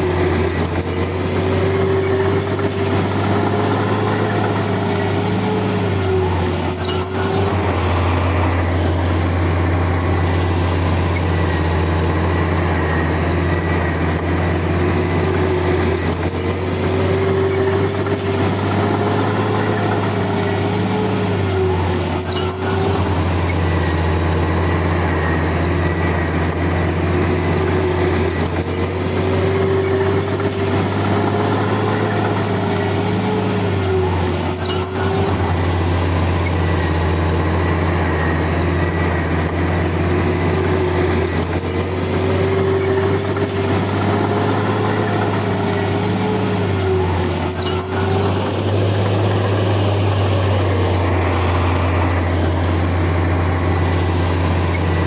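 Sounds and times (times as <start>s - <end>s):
bulldozer diesel engine running: 0.0s - 55.0s
engine whine: 0.0s - 55.0s.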